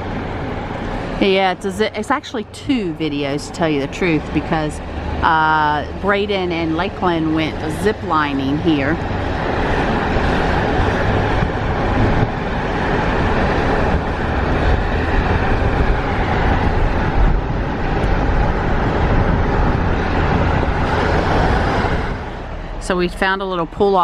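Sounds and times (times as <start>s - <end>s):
car road noise: 0.0s - 24.0s.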